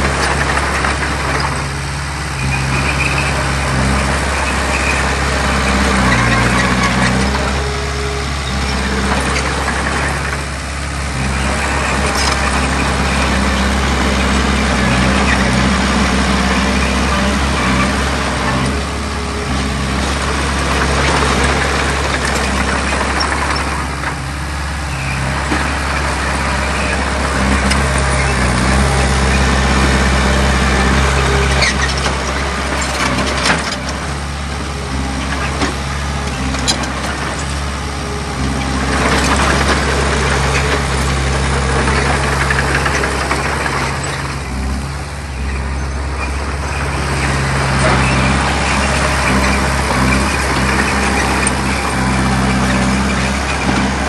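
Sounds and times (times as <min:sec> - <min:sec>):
heavy diesel machine running: 0:00.0 - 0:54.0.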